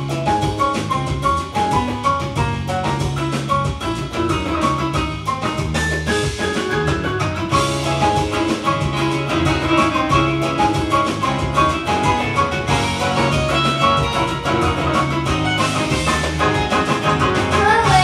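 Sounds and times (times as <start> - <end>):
steady drum beat: 0.0 - 18.0
upbeat samba music: 0.0 - 18.0.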